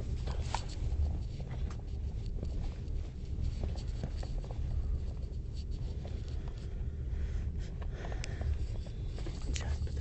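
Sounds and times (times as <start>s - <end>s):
train carriage rumble: 0.0s - 10.0s.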